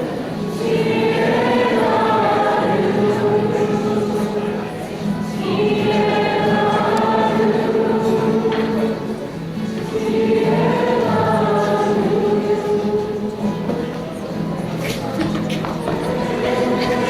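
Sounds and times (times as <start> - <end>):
group singing in chorus: 0.0 - 17.0.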